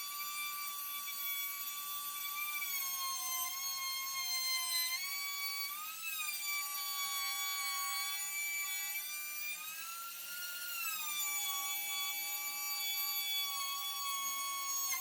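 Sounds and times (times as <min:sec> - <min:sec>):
electric power tool motor whining: 0:00.0 - 0:15.0.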